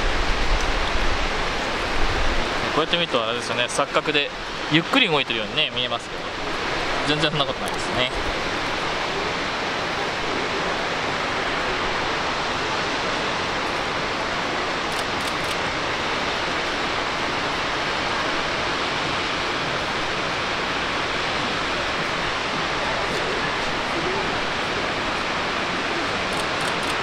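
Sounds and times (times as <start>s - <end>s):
waterfall roar: 0.0s - 27.0s.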